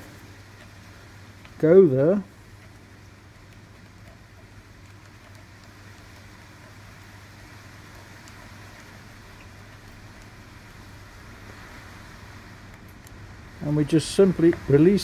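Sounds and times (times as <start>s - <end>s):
even hiss: 0.0s - 2.6s, 5.4s - 15.0s
steady low hum: 0.0s - 15.0s.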